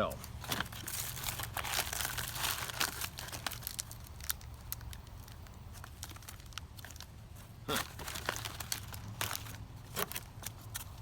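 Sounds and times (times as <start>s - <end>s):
plastic packaging crinkling: 0.1s - 11.0s.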